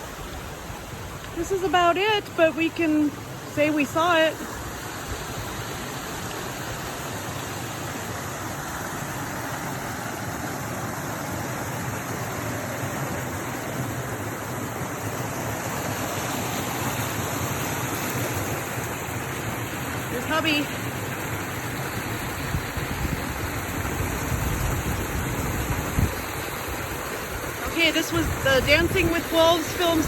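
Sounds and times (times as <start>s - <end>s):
creek water rushing: 0.0s - 30.0s.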